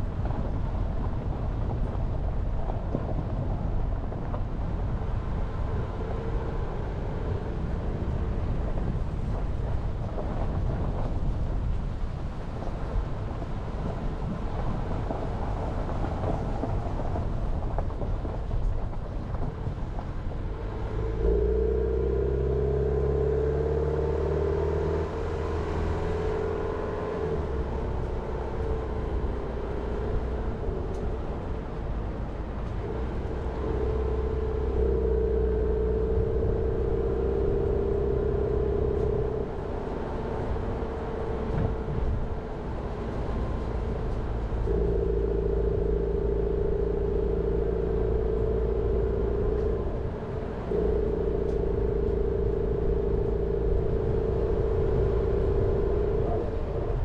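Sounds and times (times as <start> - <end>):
car engine driving: 0.0 - 57.0
road noise: 0.0 - 57.0.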